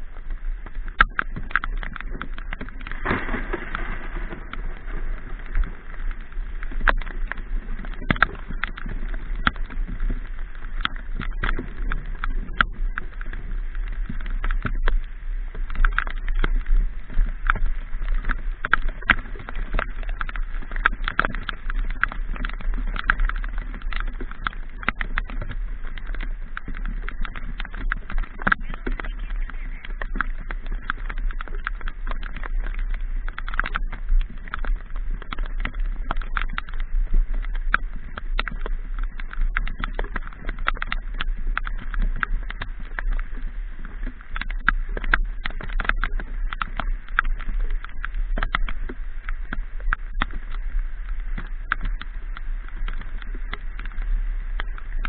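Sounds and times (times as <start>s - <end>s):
raindrops ticking on microphone: 0.0s - 55.0s.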